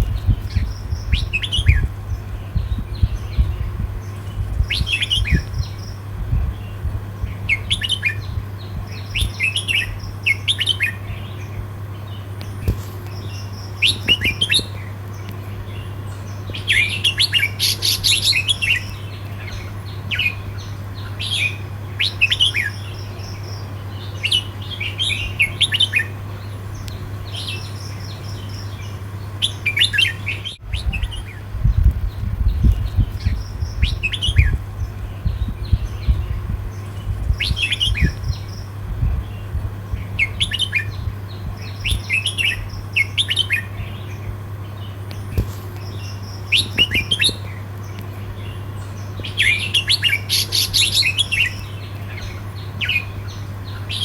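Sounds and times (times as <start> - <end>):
bulbul singing: 0.0 - 54.0
steady low hum: 0.0 - 54.0.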